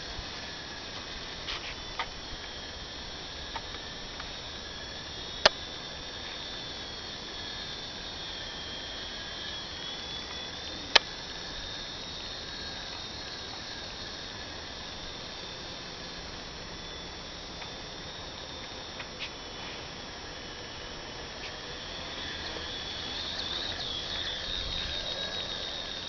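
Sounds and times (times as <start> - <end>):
rc helicopter motor whining: 0.0 - 26.0.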